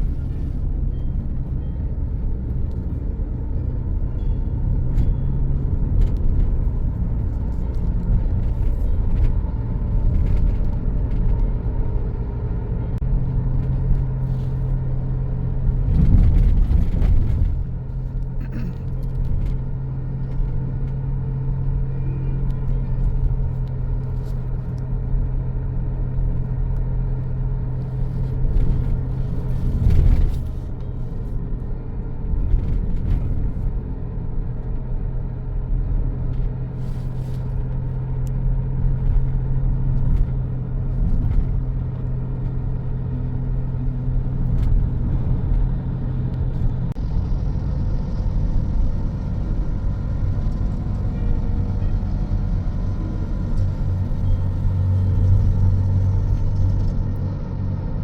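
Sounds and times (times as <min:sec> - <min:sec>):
vehicle engine and tyres rumbling: 0:00.0 - 0:58.0.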